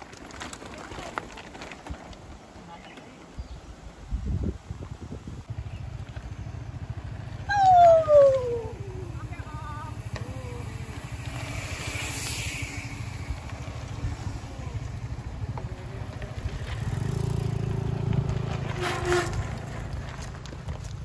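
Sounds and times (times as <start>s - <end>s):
bicycle rattling on rocky trail: 0.0s - 3.6s, 5.5s - 21.0s.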